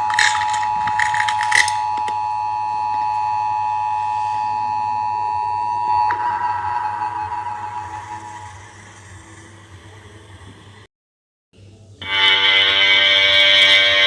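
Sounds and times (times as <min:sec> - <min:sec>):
high held horn tone: 0:00.0 - 0:10.4, 0:12.0 - 0:14.0.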